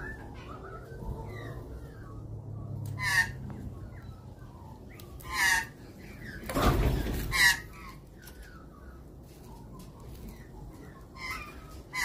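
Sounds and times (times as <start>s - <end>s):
magpies harsh calls: 0.0s - 9.1s, 10.2s - 12.0s.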